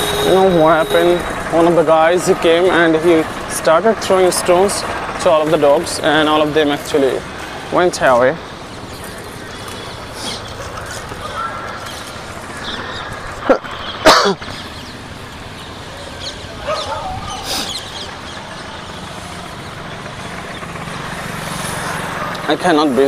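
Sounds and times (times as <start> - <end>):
street traffic: 0.0 - 23.0
vehicle passing close: 0.0 - 23.0.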